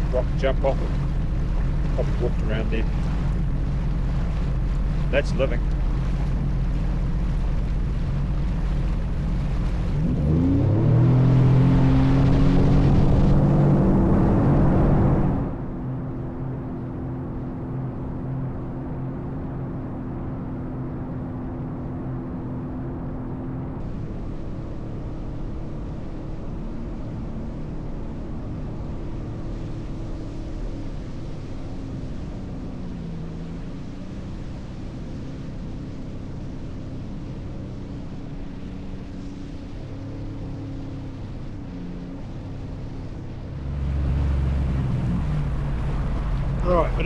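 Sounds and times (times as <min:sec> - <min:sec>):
jet ski engine running: 0:00.0 - 0:47.0.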